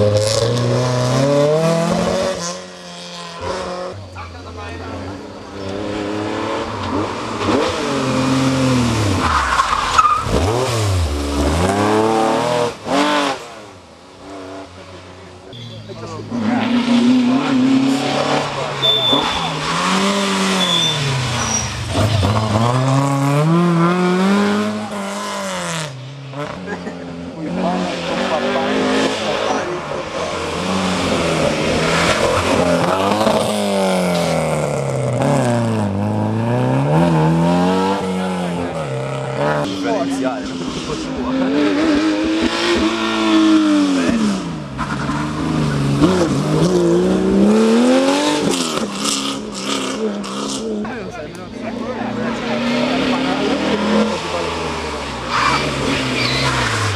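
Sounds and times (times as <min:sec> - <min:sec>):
rally car engine revving: 0:00.0 - 0:56.9.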